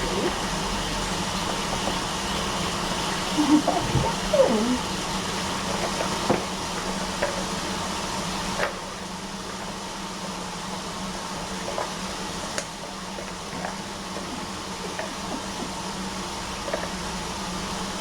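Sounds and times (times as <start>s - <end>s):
room hum and hiss: 0.0s - 18.0s.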